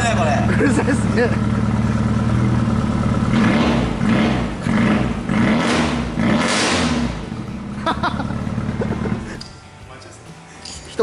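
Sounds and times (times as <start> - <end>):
car engine revving: 0.0 - 9.5.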